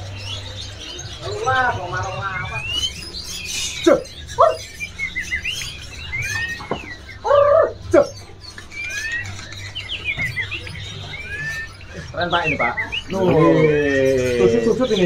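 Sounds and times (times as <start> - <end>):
caged birds chirping: 0.0 - 15.0
louder lower bird calls: 0.0 - 15.0.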